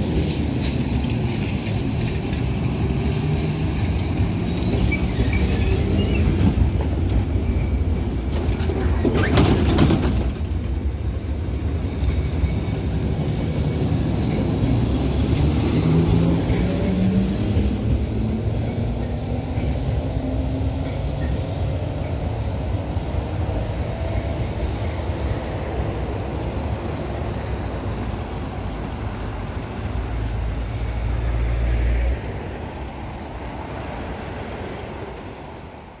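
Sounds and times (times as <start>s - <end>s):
passing cars and lorries rumbling: 0.0s - 36.0s.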